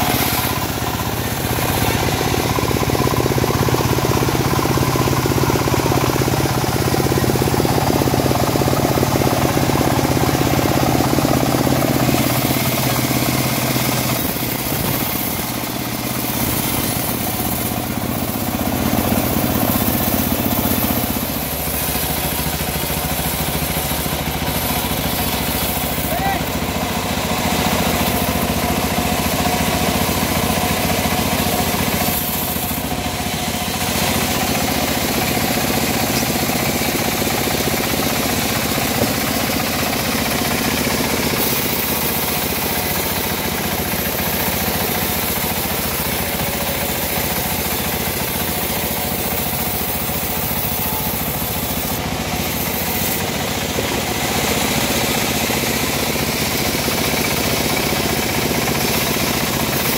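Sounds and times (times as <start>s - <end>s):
band sawmill cutting log: 0.0s - 59.9s.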